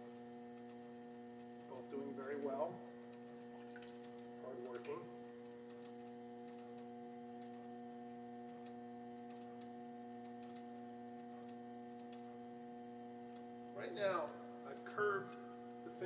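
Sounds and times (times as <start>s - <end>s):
potter's wheel humming: 0.0s - 16.0s.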